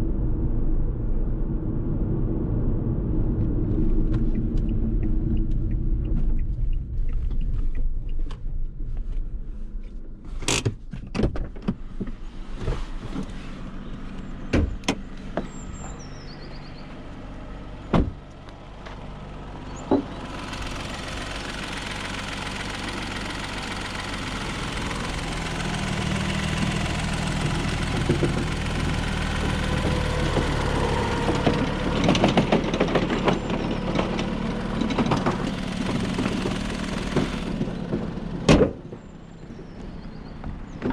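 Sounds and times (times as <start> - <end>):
car engine running: 0.0 - 11.0, 11.6 - 40.9.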